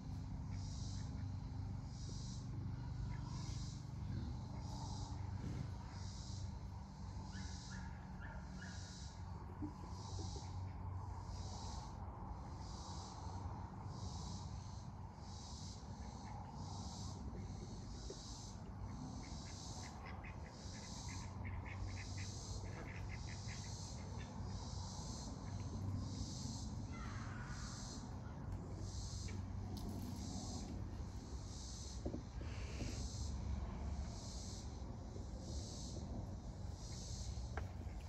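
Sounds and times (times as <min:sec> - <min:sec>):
insects chirping: 0:00.0 - 0:38.0
steady low hum: 0:00.0 - 0:38.0.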